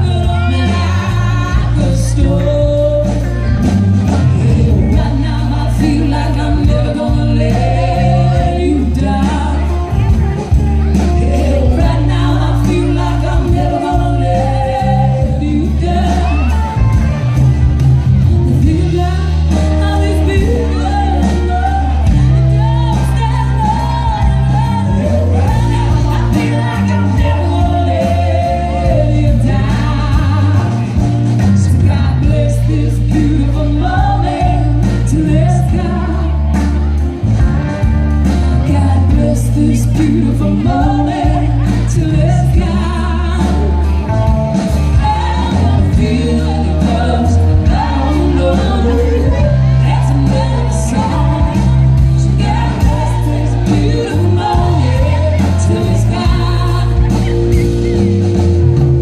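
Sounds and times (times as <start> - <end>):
live band music: 0.0 - 59.0
person singing: 0.0 - 59.0
steady bass: 0.0 - 59.0.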